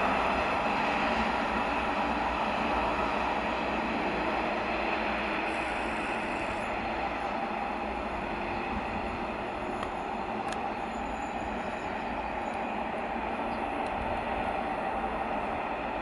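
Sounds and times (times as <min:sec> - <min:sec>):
train running on rails: 0:00.0 - 0:16.0.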